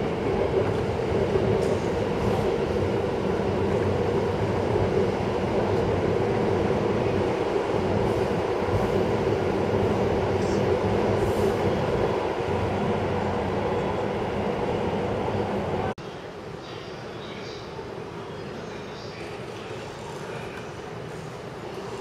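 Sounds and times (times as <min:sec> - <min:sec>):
electric trains running past: 0:00.0 - 0:22.0.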